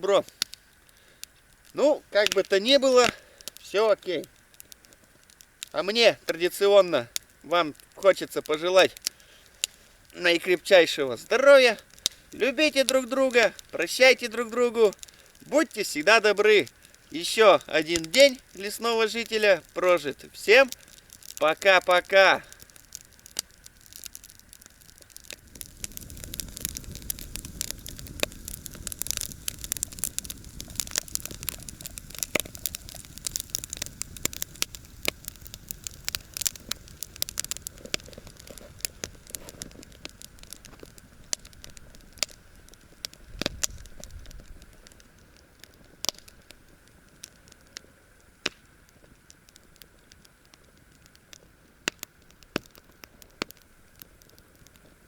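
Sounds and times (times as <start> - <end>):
campfire crackling: 0.0 - 55.0
fire popping: 0.0 - 55.0.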